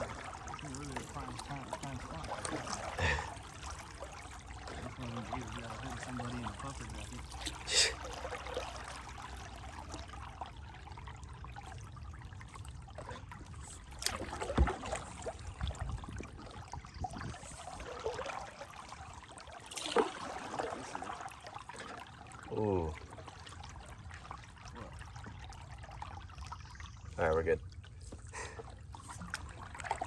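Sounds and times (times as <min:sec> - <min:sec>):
water splashes: 0:00.0 - 0:30.0
water trickling and flowing: 0:00.0 - 0:30.0.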